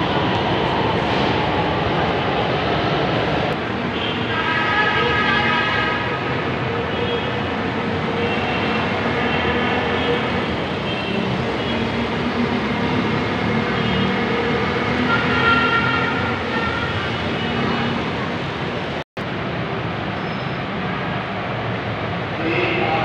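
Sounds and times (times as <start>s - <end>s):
city road traffic: 0.0s - 23.0s.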